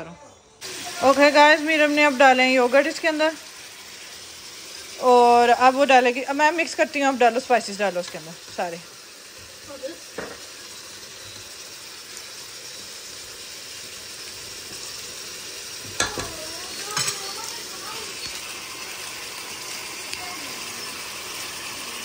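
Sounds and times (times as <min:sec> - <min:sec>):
chicken sizzling in pot: 0:00.6 - 0:22.0.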